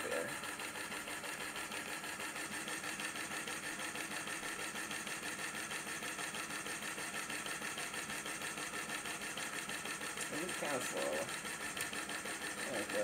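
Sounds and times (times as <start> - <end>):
small motor driving air compressor: 0.0 - 13.0.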